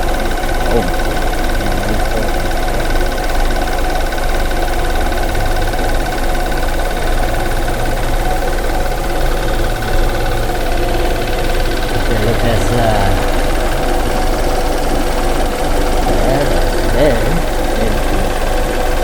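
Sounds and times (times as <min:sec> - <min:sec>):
car engine idling rough: 0:00.0 - 0:19.0.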